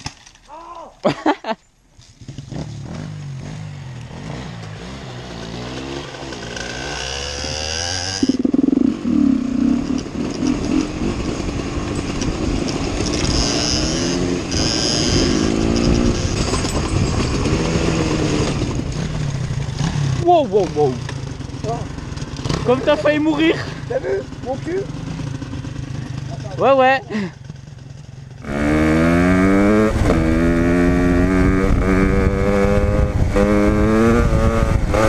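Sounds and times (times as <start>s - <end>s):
dirt bike engine accelerating: 2.0s - 35.0s.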